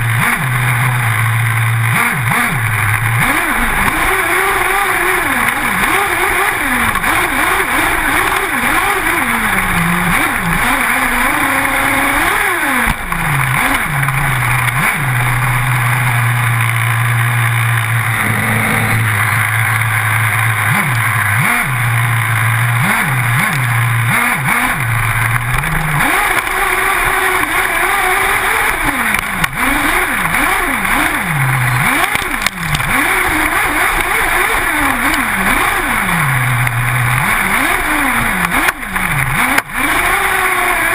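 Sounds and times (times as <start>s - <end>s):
constant rushing noise: 0.0s - 40.9s
small two-stroke engine revving: 0.0s - 40.9s.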